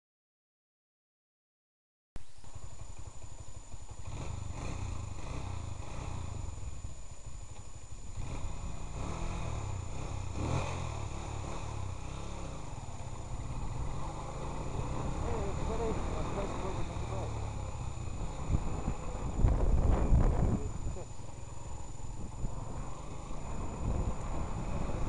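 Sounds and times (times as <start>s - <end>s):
motorcycle engine rumbling: 2.2s - 25.0s.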